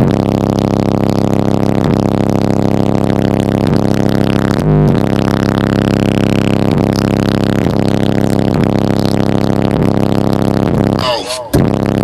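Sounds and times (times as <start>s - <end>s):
loud bass-heavy music in car: 0.0s - 12.0s.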